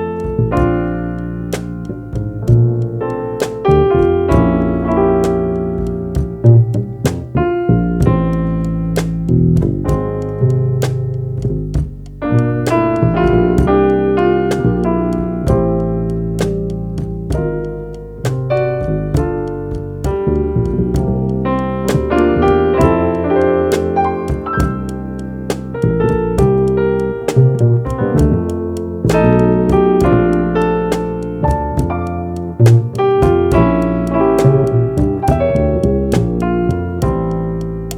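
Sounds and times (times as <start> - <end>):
sharp drum taps: 0.0 - 17.7, 18.3 - 37.9
bass notes: 0.0 - 37.9.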